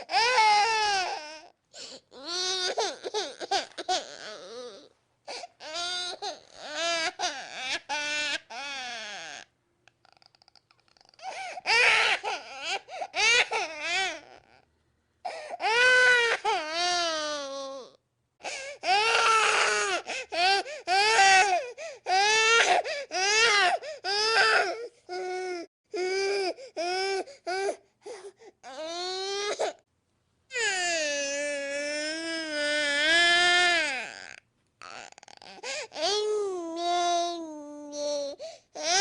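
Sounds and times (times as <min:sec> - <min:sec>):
infant crying: 0:00.0 - 0:09.5, 0:10.1 - 0:14.6, 0:15.3 - 0:29.8, 0:30.5 - 0:39.0.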